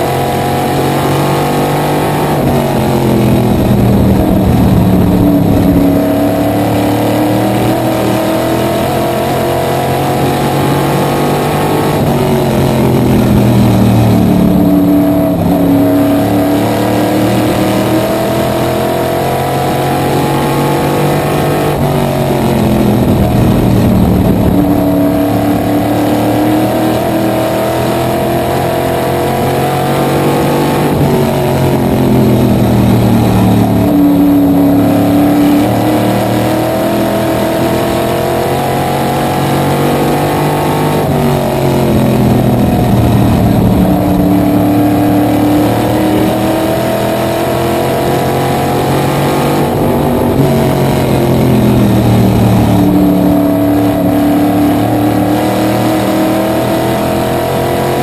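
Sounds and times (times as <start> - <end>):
race car engine at speed: 0.0 - 58.0.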